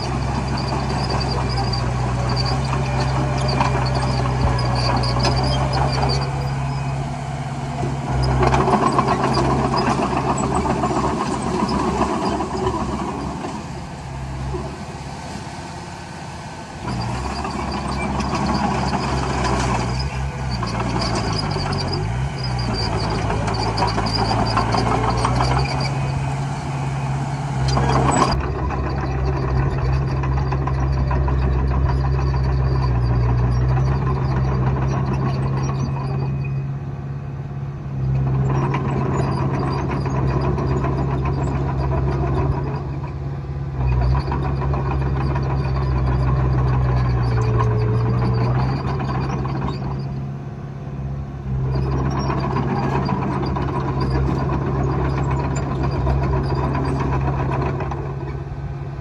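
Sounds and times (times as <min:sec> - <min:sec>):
bulldozer diesel engine working: 0:00.0 - 0:59.0.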